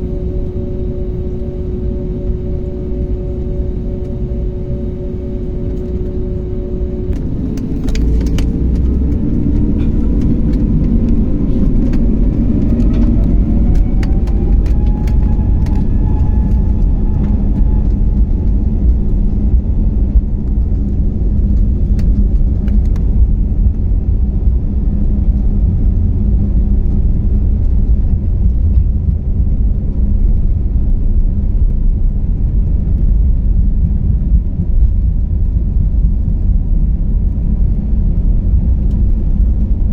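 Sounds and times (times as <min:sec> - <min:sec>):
heavy steady engine rumble: 0:00.0 - 0:39.9
jet engine whine: 0:00.0 - 0:39.9.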